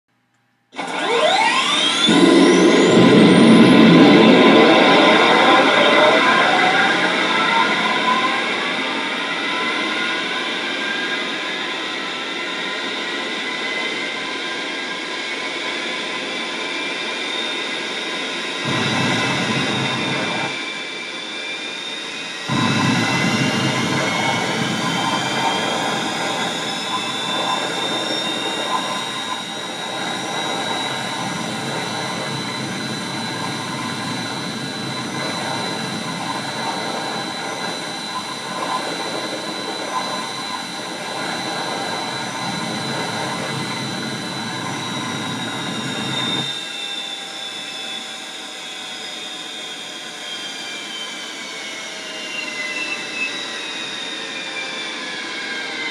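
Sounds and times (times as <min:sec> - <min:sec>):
jet engine whine: 0:00.8 - 0:55.9
jet engine rumble: 0:01.5 - 0:47.4.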